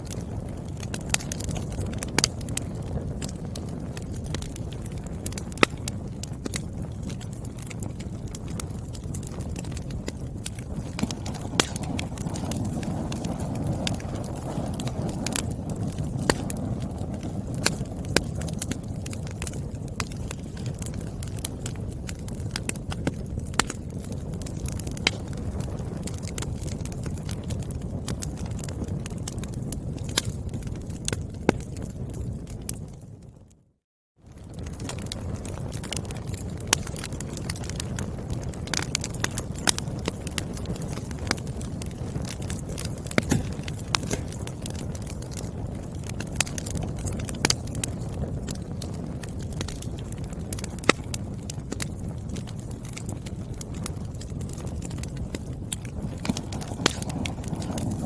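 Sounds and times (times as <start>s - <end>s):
firewood crackling and popping: 0.0s - 58.0s
low rumble of fire: 0.0s - 58.0s.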